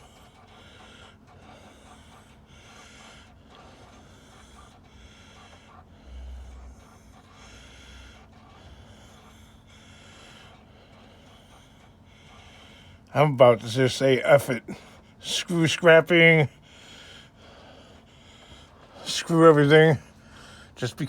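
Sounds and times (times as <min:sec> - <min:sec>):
man breathing heavily: 0:00.0 - 0:20.9.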